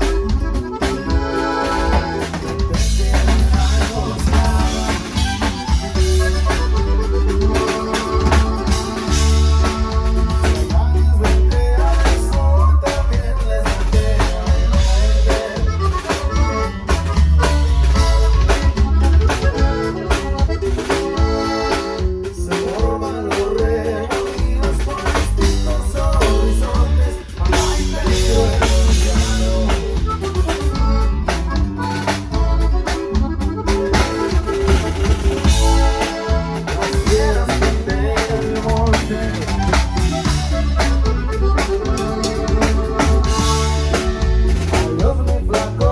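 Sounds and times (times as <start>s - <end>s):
band playing: 0.0s - 45.9s.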